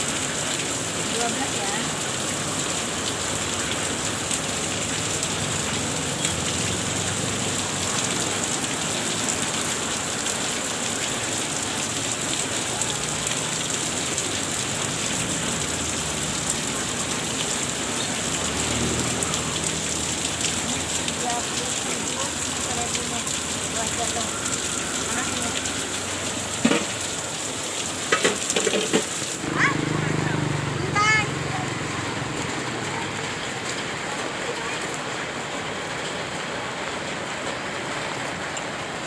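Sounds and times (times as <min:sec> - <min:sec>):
heavy rain on hard surface: 0:00.0 - 0:39.0.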